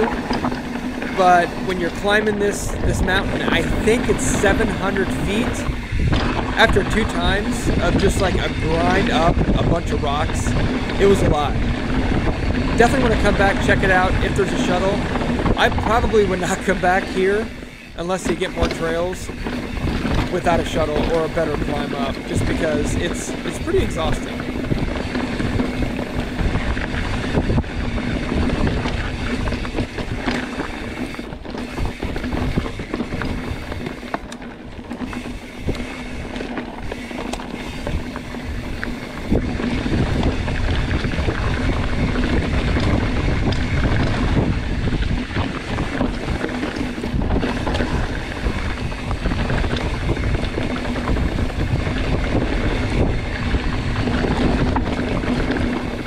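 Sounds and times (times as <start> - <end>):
mountain bike rumbling on rocks: 0.0 - 56.0
wind buffeting microphone: 0.0 - 56.0.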